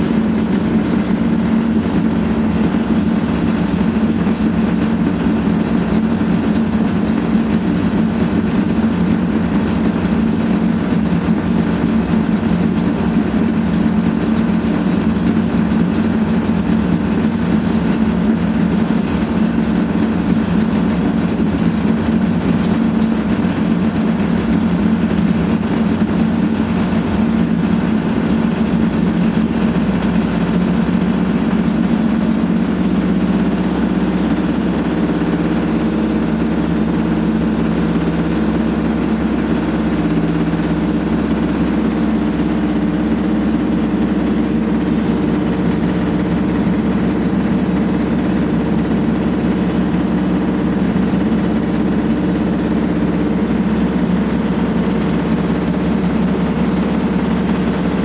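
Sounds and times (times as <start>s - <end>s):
washing machine drum spinning: 0.0s - 58.0s.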